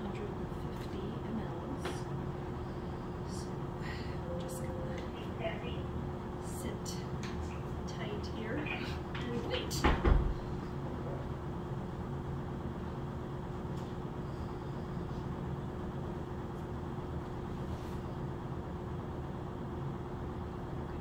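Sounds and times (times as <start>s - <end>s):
mechanical hum with steady tone: 0.0s - 21.0s.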